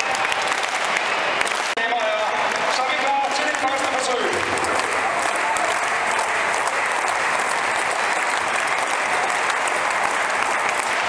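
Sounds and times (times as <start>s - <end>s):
stadium crowd applauding: 0.0s - 11.0s.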